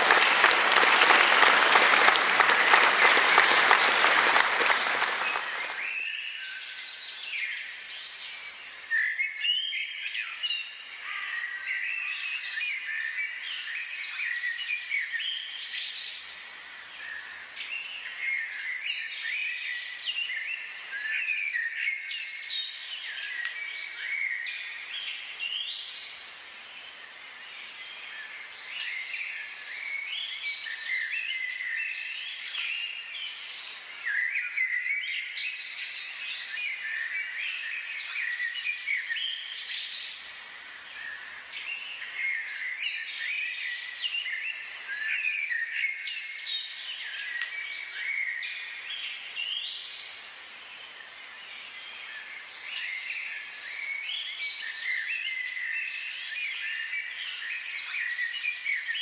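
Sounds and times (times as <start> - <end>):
small birds chirping in chorus: 2.6 - 59.0.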